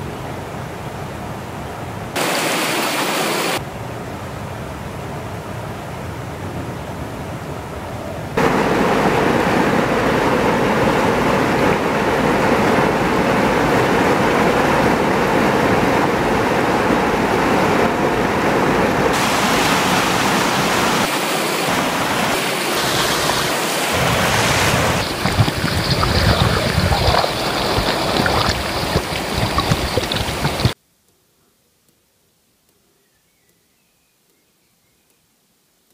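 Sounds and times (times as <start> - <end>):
stream water rushing: 0.0 - 30.8.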